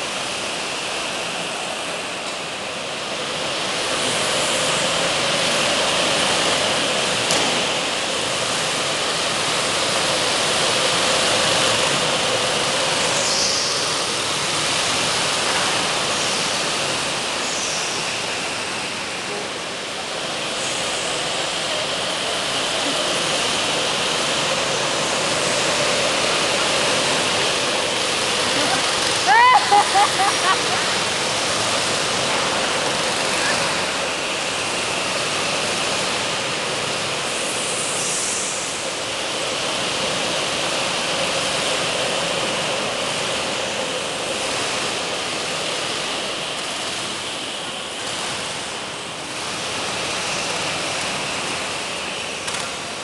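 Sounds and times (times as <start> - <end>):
go-kart engines droning: 0.0 - 53.0.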